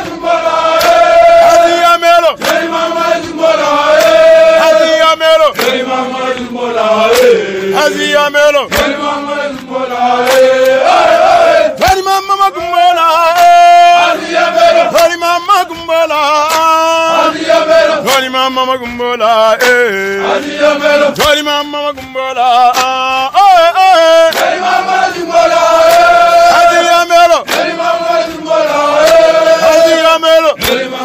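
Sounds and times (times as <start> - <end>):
men chanting a marching song: 0.0 - 31.0.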